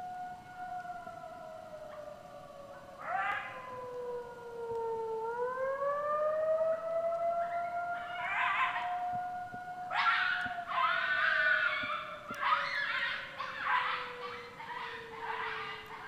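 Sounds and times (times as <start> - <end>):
coyote howling and yipping: 0.4 - 4.7, 5.7 - 16.0.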